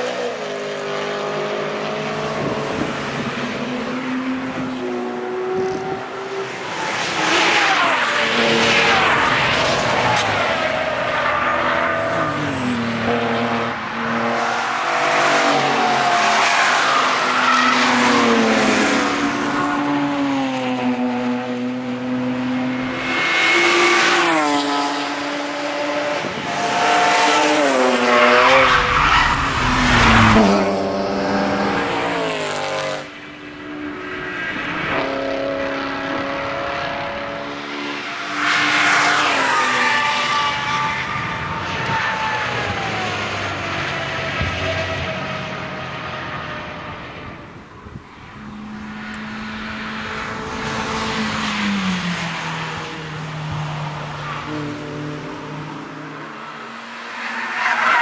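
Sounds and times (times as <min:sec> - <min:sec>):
cars driving past at speed: 0:00.0 - 0:58.0.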